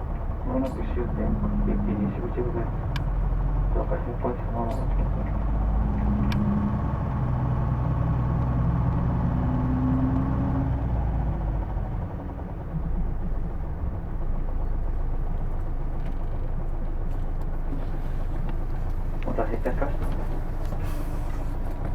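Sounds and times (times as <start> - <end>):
bus diesel engine: 0.0 - 21.9.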